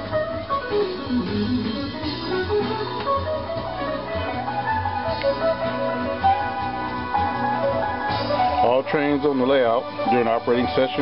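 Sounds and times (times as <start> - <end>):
guitar music: 0.0 - 11.0
steady bass line: 0.0 - 11.0.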